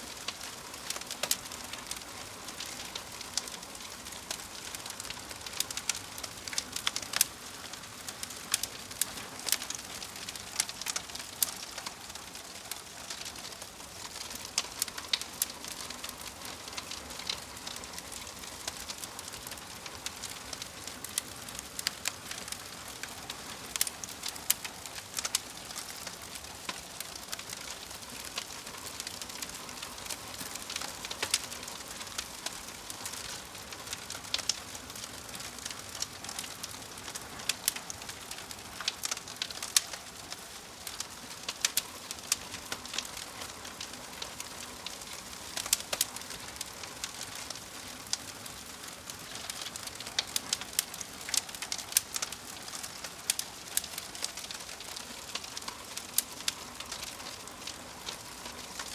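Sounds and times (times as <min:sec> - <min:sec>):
fire crackles and pops: 0:00.0 - 0:58.9
logs burning in fireplace: 0:00.0 - 0:58.9.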